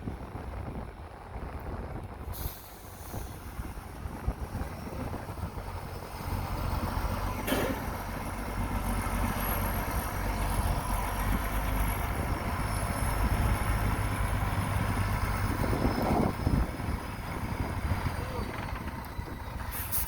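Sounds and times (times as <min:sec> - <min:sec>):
diesel machine low rumble: 0:00.0 - 0:20.0.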